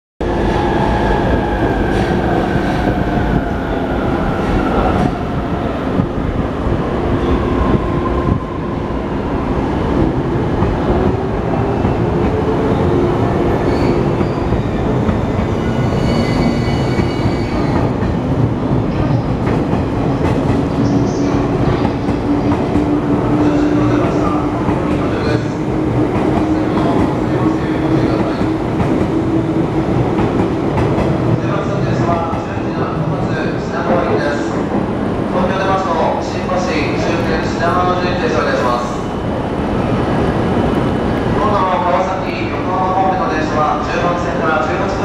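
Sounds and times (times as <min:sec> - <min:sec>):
train wheels rumbling: 0:00.2 - 0:45.0.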